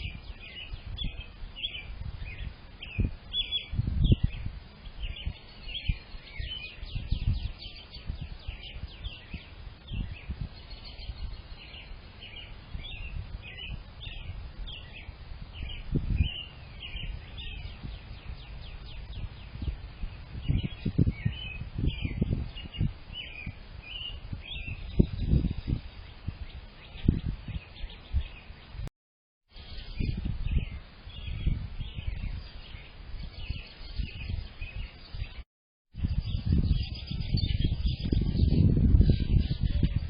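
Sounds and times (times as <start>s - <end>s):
songbirds chirping and singing: 0.0s - 28.9s, 29.6s - 35.4s, 36.0s - 40.0s.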